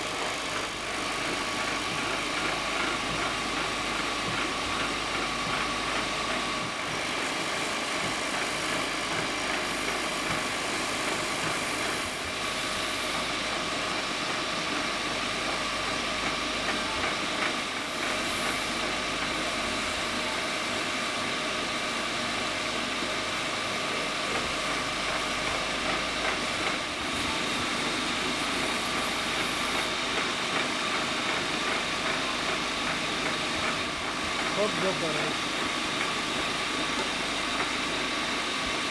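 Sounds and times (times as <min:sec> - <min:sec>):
wood lathe running: 0:00.0 - 0:38.9.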